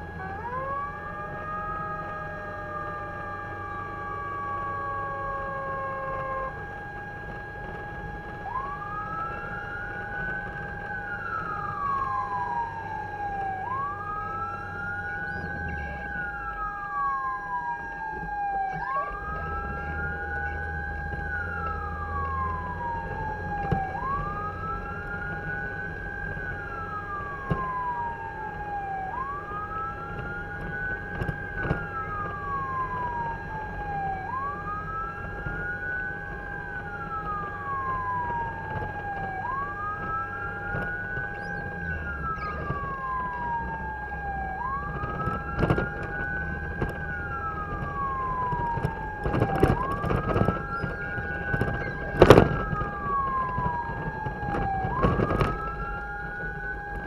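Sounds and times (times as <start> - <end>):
fire truck siren wailing: 0.0 - 57.0
truck engine running: 6.6 - 57.0.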